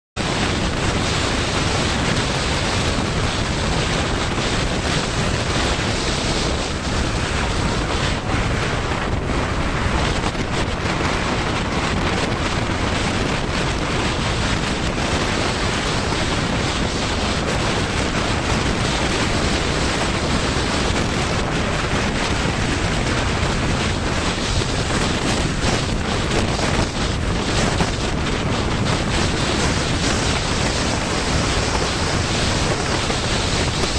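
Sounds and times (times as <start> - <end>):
wind buffeting microphone: 0.2 - 33.9.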